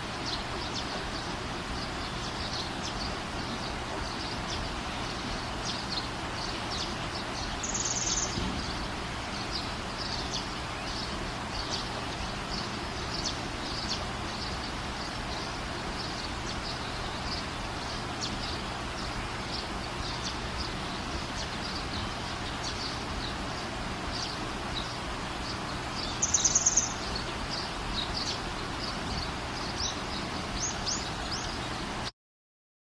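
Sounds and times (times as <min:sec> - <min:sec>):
birds chirping: 0:00.0 - 0:32.1
rain hiss: 0:00.0 - 0:32.1
trilling bird calls: 0:00.2 - 0:32.1.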